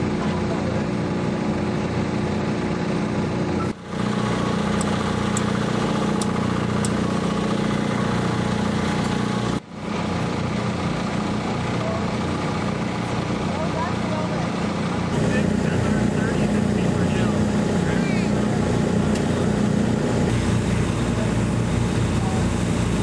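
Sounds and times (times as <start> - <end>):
forklift engine idling: 0.0 - 23.0.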